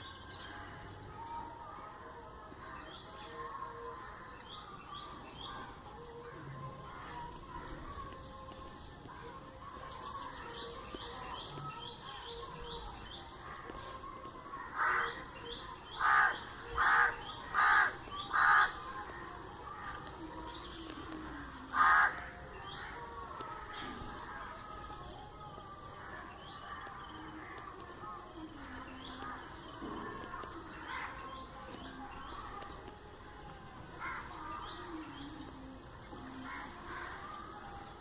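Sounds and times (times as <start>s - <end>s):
small birds chirping: 0.0s - 38.0s
large bird harsh calls: 2.6s - 32.8s, 33.8s - 38.0s.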